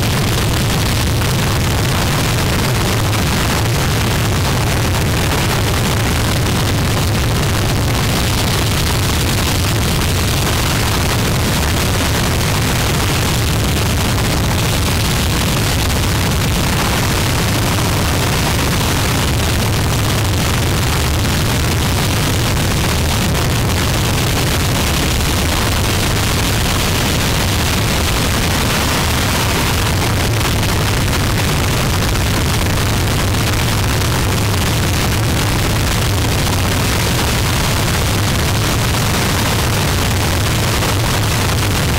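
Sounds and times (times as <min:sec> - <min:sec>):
deep rumble: 0:00.0 - 0:41.9.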